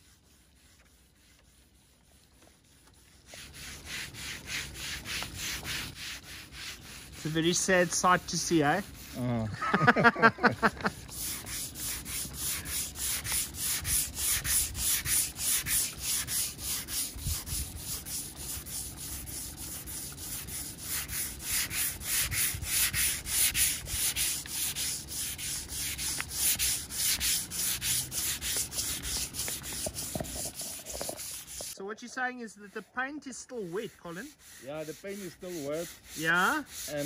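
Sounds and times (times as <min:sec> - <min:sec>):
sandpaper rasping on metal: 0:00.0 - 0:10.0, 0:10.6 - 0:37.0.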